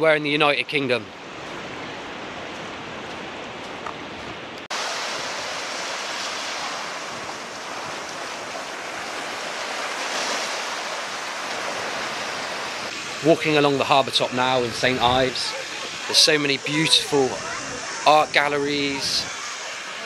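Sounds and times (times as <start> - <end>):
sea surf washing: 0.0 - 20.0.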